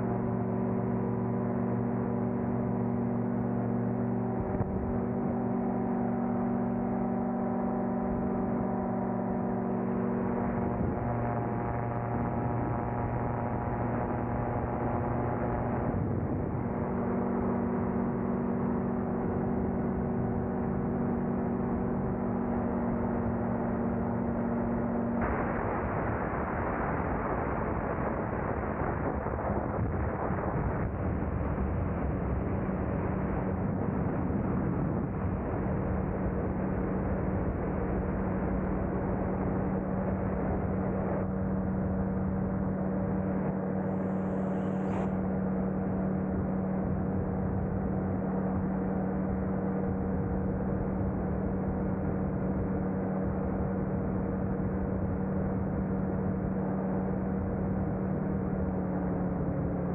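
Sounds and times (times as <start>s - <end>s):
small engine droning: 0.0s - 59.9s.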